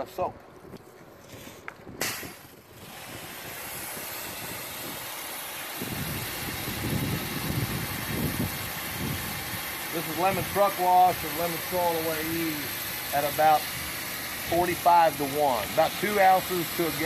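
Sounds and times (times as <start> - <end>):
pressure washer spray hissing: 2.0 - 17.0.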